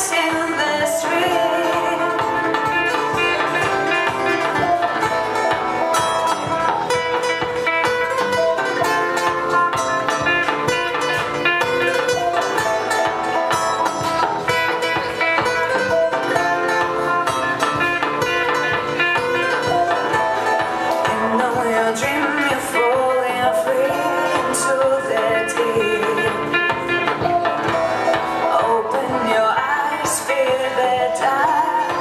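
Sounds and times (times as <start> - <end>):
live band playing instrumental: 0.0 - 32.0
quickly picked guitar: 0.0 - 32.0.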